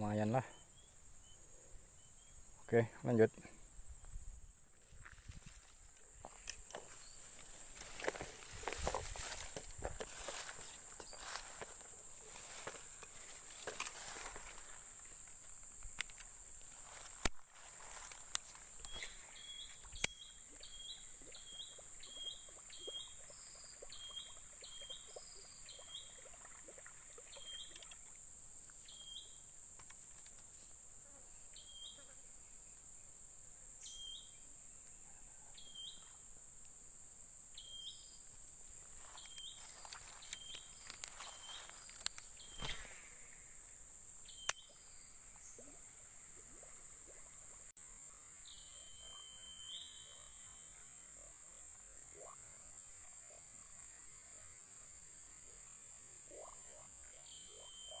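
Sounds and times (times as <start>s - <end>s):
crickets droning: 0.0s - 58.0s.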